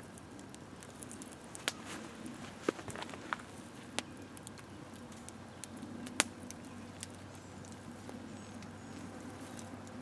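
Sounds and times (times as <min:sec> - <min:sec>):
fire popping: 0:00.0 - 0:10.0
wood fire crackling: 0:00.0 - 0:10.0.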